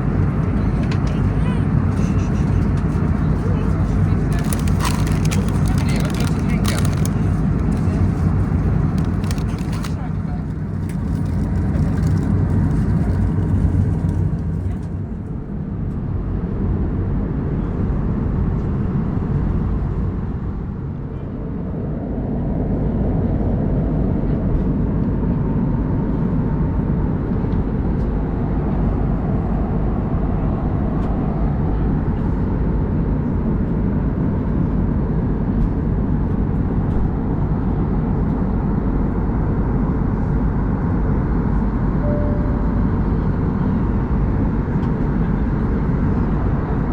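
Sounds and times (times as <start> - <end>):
airplane cabin engine rumble: 0.0 - 46.9.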